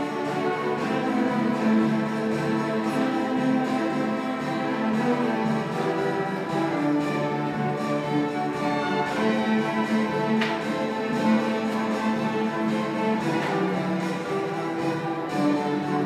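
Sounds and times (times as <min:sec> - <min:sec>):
string orchestra sustained chords: 0:00.0 - 0:16.0.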